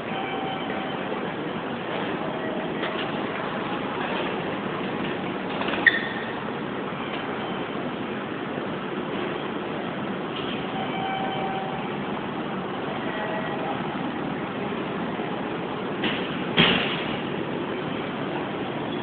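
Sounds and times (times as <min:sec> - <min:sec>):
train station din: 0:00.0 - 0:19.0.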